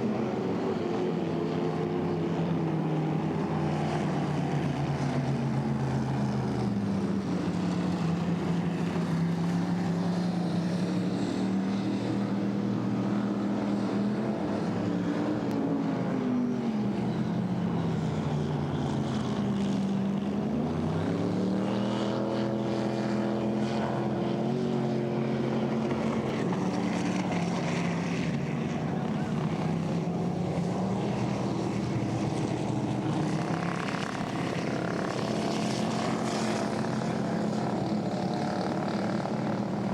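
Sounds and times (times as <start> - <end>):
speedboat engine running hard: 0.0 - 39.9.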